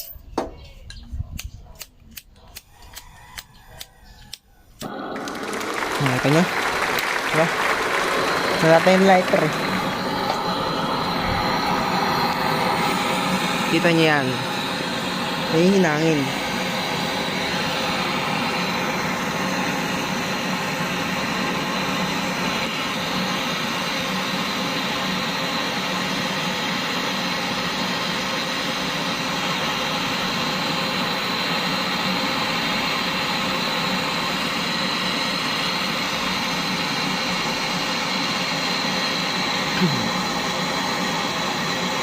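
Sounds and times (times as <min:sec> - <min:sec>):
torch flame hissing: 0:04.8 - 0:42.0.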